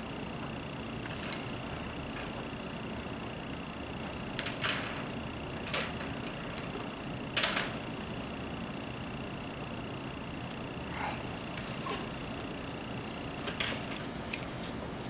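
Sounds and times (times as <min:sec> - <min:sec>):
steady high whine: 0:00.0 - 0:15.0.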